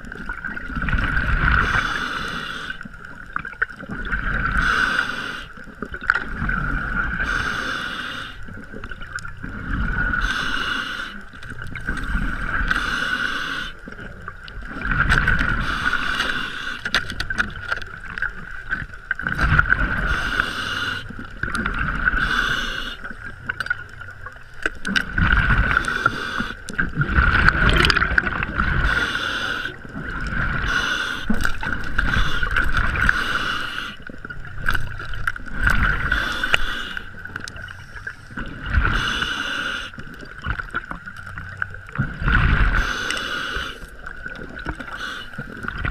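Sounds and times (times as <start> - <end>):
underwater bubbling hiss: 0.0 - 45.9.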